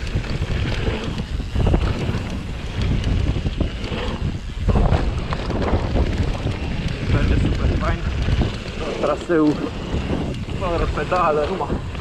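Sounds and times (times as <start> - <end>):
bike knocks and rattles: 0.0 - 12.0
wind over microphone: 0.0 - 12.0.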